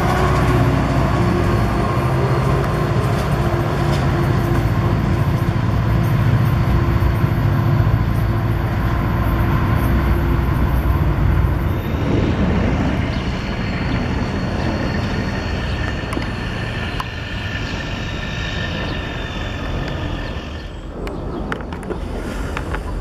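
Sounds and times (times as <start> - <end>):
helicopter flying overhead: 0.0 - 22.0
diesel locomotive approaching: 0.0 - 23.0.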